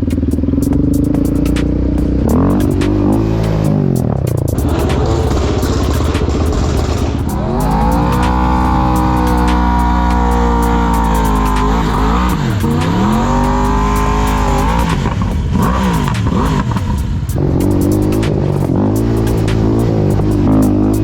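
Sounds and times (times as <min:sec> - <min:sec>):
quad bike engines revving: 0:00.0 - 0:21.0.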